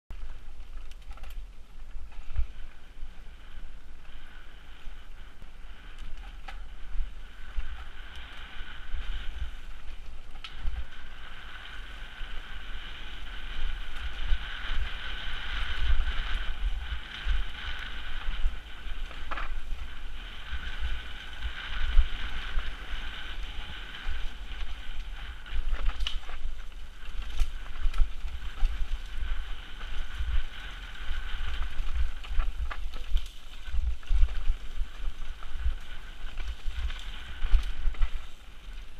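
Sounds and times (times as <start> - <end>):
bike tyre and frame noise: 0.1 - 38.9
wind buffeting microphone: 0.1 - 38.9.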